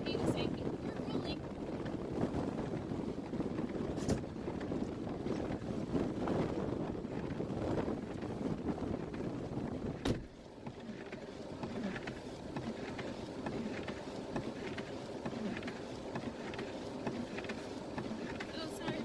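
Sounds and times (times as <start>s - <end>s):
blizzard wind: 0.0s - 19.0s.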